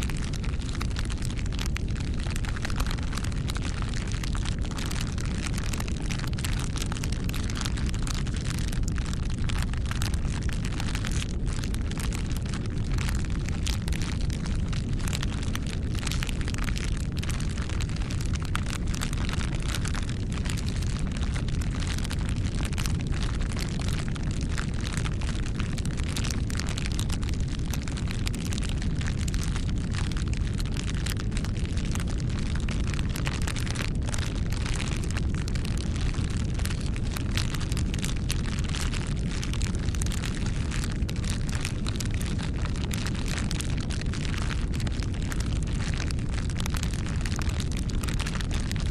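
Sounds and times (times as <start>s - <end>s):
low rumble of flames: 0.0s - 48.9s
wood crackling and popping: 0.0s - 48.9s.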